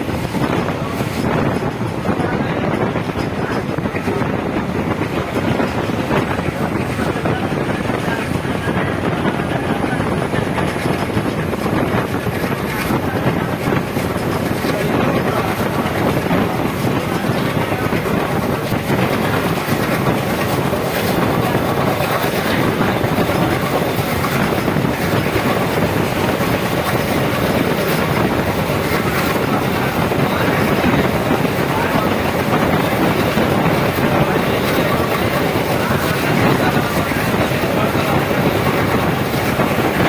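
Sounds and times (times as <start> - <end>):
clacks over rail joints: 0.0 - 40.0
train wheels rumbling on rails: 0.0 - 40.0.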